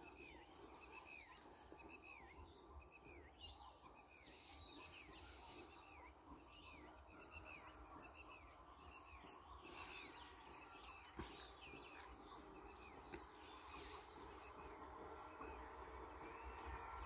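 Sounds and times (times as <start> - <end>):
insect chirping: 0.0 - 17.0
swooping bird calls: 0.0 - 17.0.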